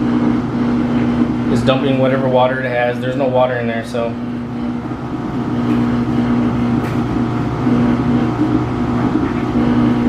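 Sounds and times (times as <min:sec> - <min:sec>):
washing machine drain pump humming: 0:00.0 - 0:10.0.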